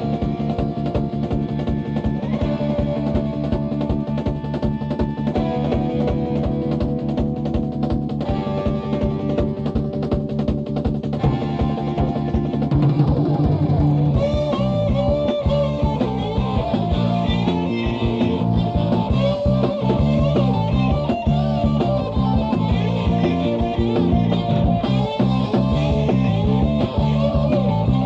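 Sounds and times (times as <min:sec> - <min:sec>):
bass: 0:00.0 - 0:28.0
drums: 0:00.0 - 0:28.0
electric guitars: 0:00.0 - 0:28.0.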